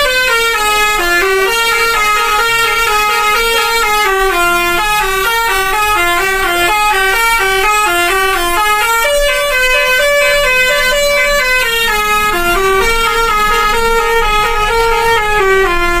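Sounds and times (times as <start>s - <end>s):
musical bus air horn tune: 0.0s - 16.0s.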